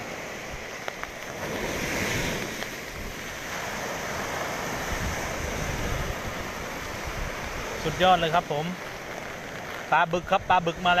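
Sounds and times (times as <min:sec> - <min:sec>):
surf breaking on shore: 0:00.0 - 0:11.0
wind buffeting microphone: 0:00.0 - 0:11.0.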